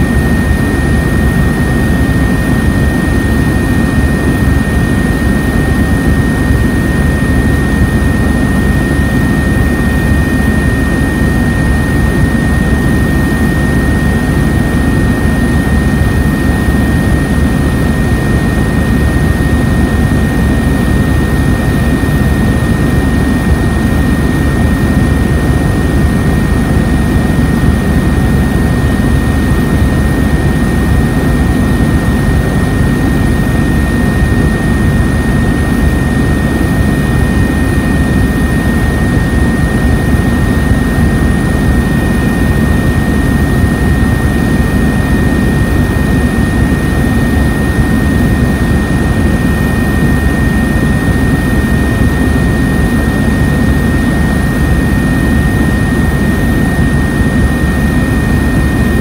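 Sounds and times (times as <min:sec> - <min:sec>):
aircraft engine drone: 0:00.0 - 0:59.0.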